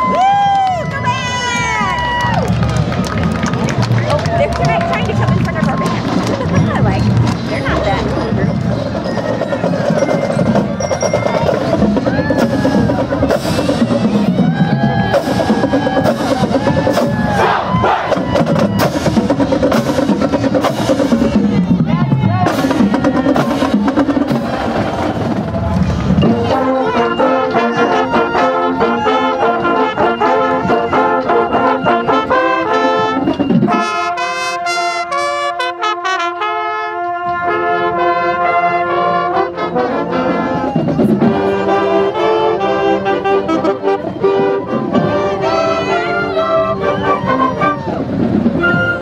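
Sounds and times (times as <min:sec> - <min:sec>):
marching band with brass: 0:00.0 - 0:49.0.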